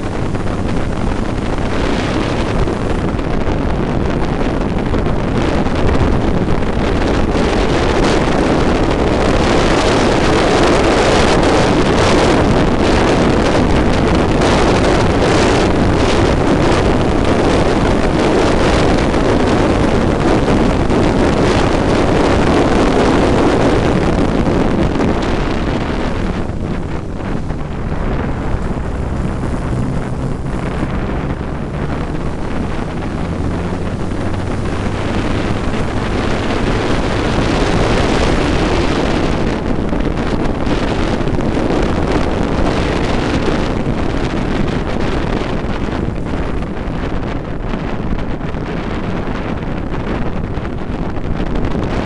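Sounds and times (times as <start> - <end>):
racing car engine running hard: 0.0 - 52.0
wind buffeting microphone: 0.0 - 52.0.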